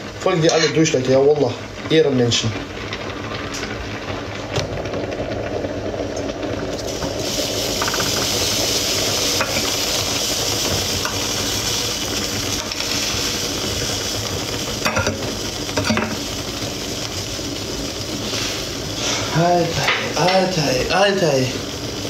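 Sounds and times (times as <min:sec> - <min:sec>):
mixture sizzling in frying pan: 0:00.0 - 0:22.0.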